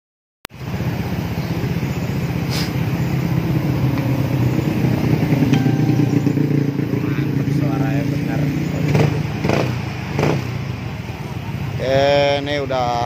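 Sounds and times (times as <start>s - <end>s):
scooter engine idling: 0.6s - 13.0s.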